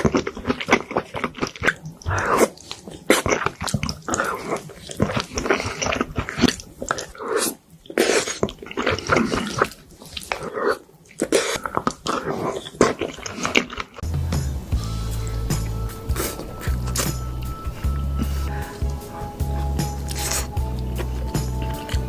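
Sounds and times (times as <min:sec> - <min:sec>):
person chewing food: 0:00.0 - 0:14.1, 0:15.0 - 0:22.0.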